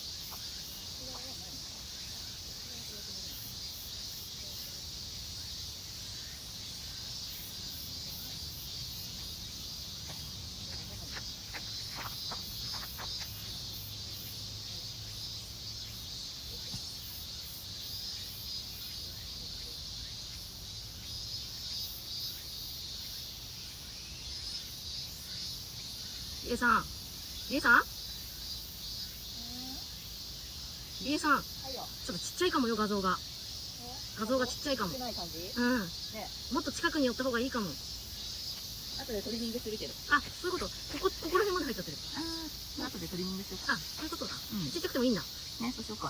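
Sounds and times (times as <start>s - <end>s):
crickets and insects trilling: 0.0s - 46.0s.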